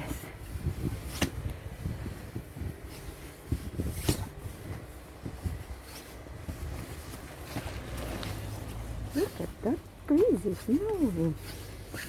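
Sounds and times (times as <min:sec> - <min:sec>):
footsteps in deep snow: 0:00.0 - 0:12.0
wind rumble on microphone: 0:00.0 - 0:12.0.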